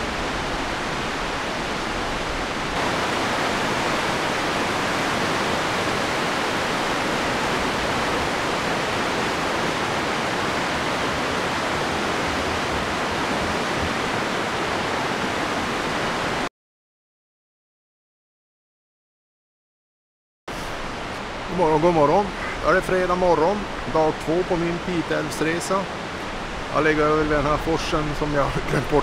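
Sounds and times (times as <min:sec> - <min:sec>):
river rapids rushing: 0:00.0 - 0:16.5, 0:20.5 - 0:29.0.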